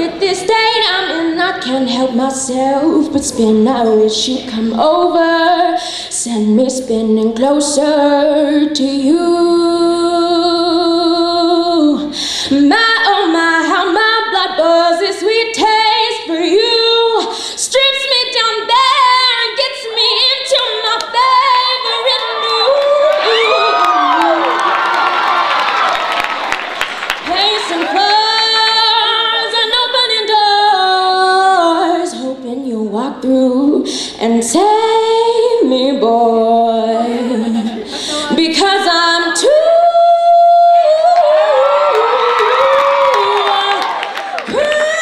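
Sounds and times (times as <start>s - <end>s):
woman singing: 0.0s - 24.4s, 27.2s - 45.0s.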